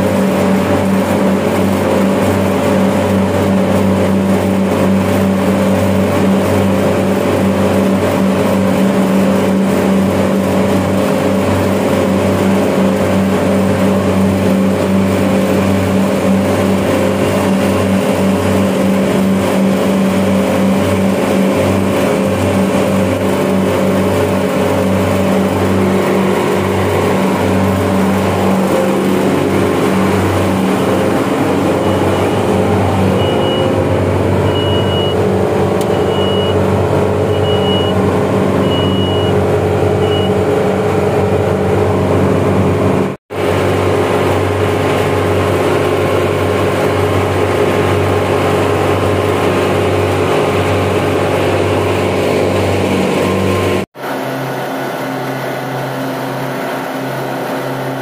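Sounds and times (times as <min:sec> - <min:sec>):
chiller machine hum: 0:00.0 - 0:58.0.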